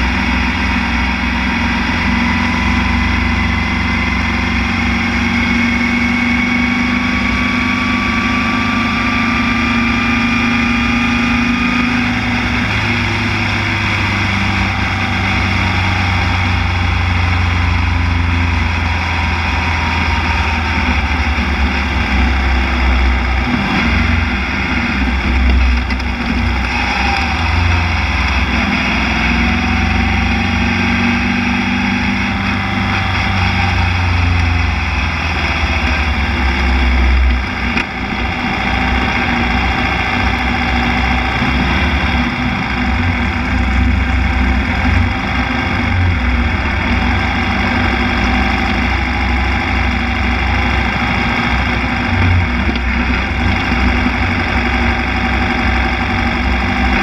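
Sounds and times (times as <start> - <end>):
race car engine at low revs: 0.0 - 57.0.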